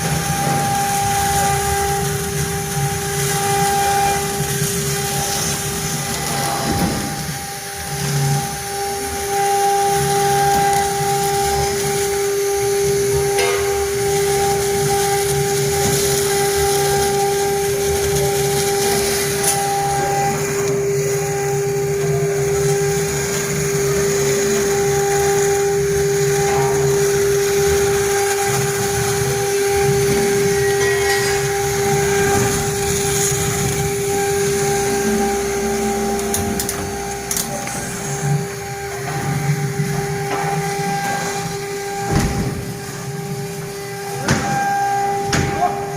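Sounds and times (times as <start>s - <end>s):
bit cutting stone: 0.0s - 42.2s
router spindle whine: 0.0s - 45.9s.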